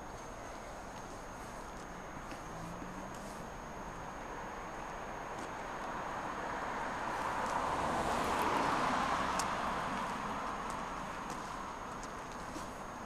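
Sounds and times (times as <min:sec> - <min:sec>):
road vehicle passing by: 0:01.9 - 0:13.0.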